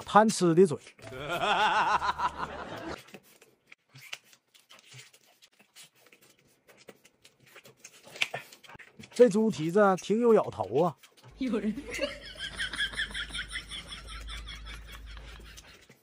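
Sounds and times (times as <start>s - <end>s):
man chewing meat: 0.8s - 11.4s, 12.5s - 16.0s.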